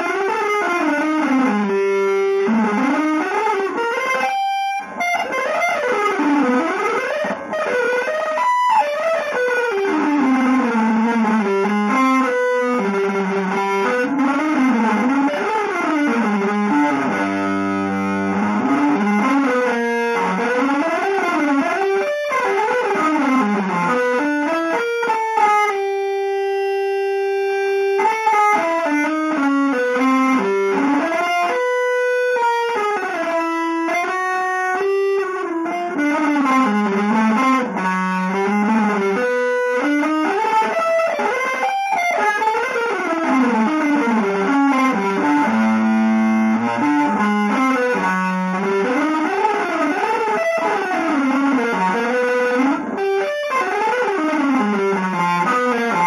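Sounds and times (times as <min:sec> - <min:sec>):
electric guitar jazz line: 0:00.0 - 0:56.0.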